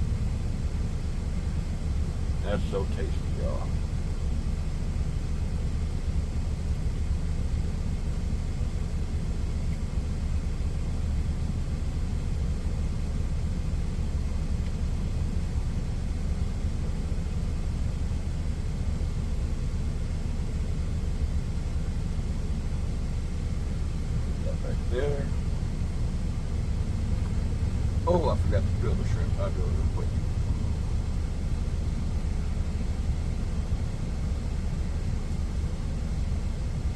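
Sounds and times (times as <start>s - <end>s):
truck diesel engine idling: 0.0s - 36.9s.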